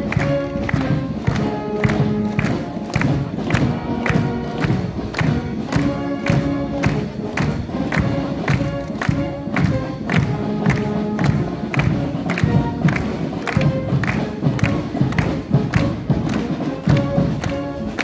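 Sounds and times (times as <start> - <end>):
brass band playing a march: 0.0 - 18.0
drum beat: 0.0 - 18.0.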